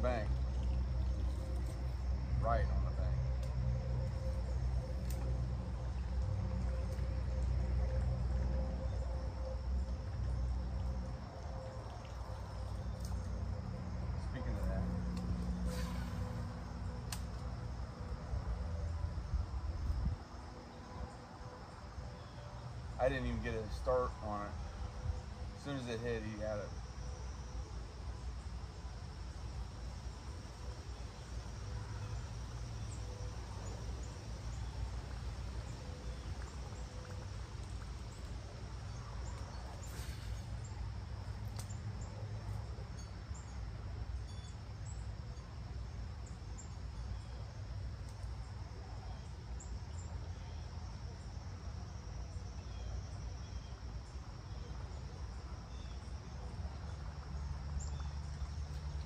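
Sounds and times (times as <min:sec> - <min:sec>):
crickets and insects chirping: 0:00.0 - 0:59.0.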